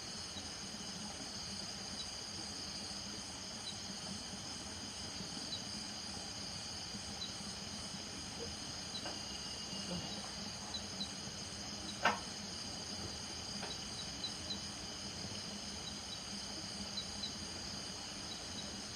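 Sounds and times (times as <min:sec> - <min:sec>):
insect trill: 0:00.0 - 0:18.9.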